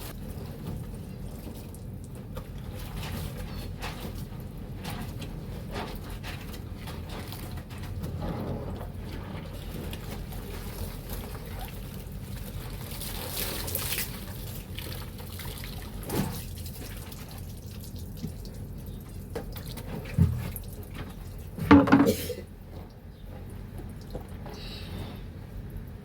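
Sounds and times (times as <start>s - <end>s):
water sloshing and splashing: 0.0s - 24.5s.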